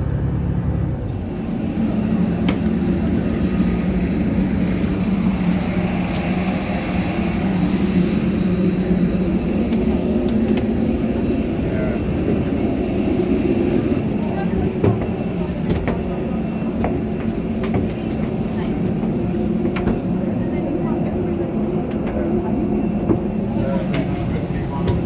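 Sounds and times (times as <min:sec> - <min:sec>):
airliner engine rumble: 0:00.0 - 0:25.0.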